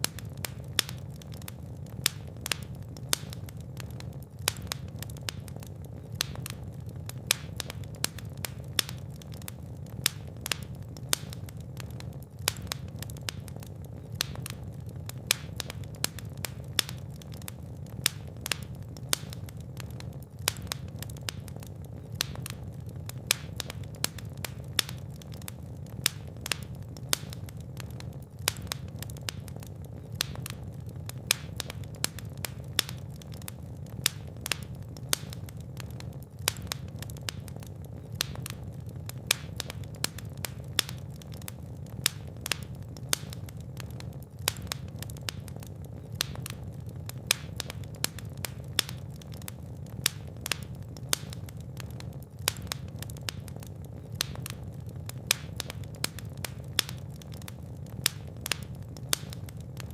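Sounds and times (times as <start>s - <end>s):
fire popping and crackling: 0.0s - 59.9s
fire rumbling: 0.0s - 59.9s.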